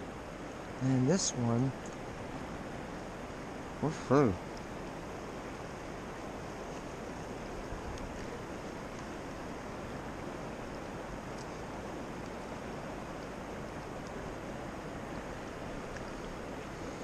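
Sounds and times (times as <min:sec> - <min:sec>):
fast river current rushing: 0:00.0 - 0:17.0.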